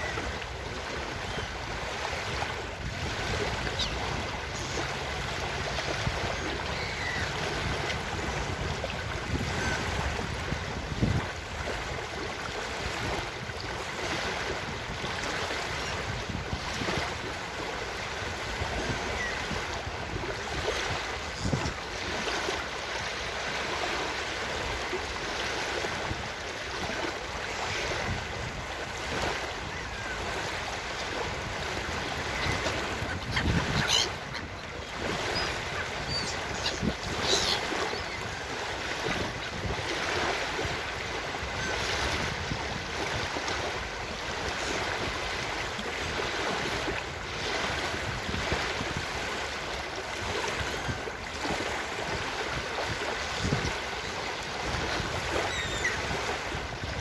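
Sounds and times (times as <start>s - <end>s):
ocean surf on a beach: 0.0s - 57.0s.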